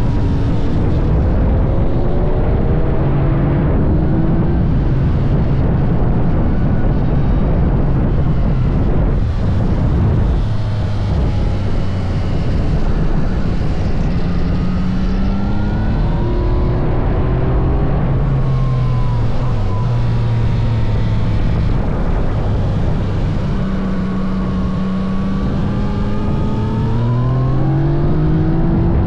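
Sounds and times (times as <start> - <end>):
motorcycle engine running at speed: 0.0 - 29.0
wind rush: 0.0 - 29.0.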